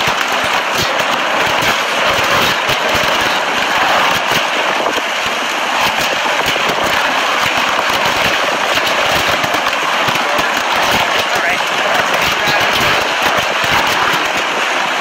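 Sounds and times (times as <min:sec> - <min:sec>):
crackling and rattling: 0:00.0 - 0:15.0
driving rain: 0:00.0 - 0:15.0
roaring wind: 0:00.0 - 0:15.0.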